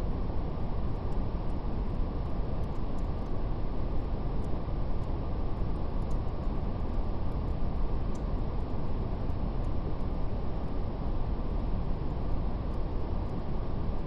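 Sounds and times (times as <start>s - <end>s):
brown noise rushing hiss: 0.0s - 14.0s.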